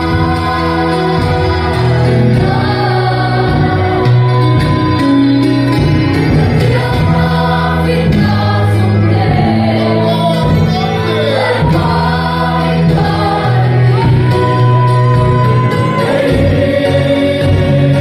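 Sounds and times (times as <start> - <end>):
congregation singing: 0.0 - 18.0
instrumental accompaniment with bass: 0.0 - 18.0.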